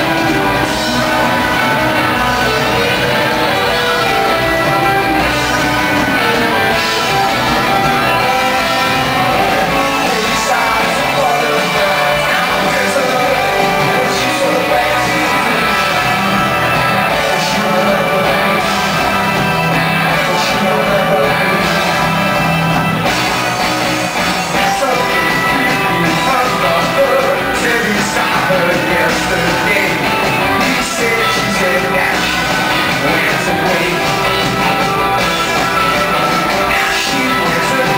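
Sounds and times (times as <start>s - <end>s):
rock band playing live: 0.0s - 37.9s.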